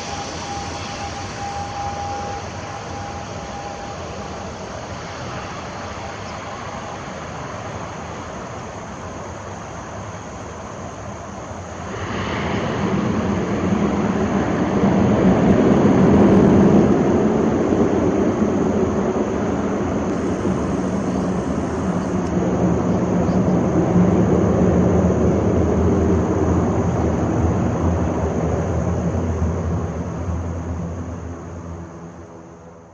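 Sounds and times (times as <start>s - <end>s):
turboprop engines droning: 0.0s - 32.9s.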